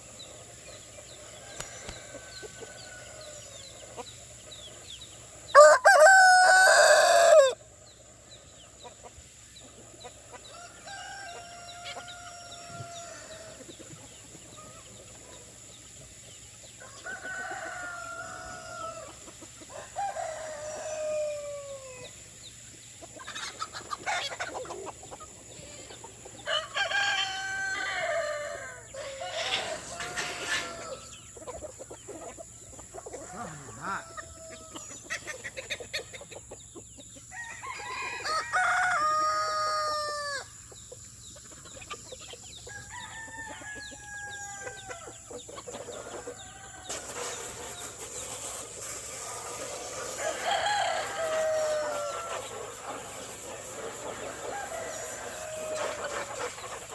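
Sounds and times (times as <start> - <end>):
roosters crowing: 0.0 - 7.8, 10.0 - 15.7, 16.3 - 22.4, 23.1 - 36.2, 37.2 - 56.9.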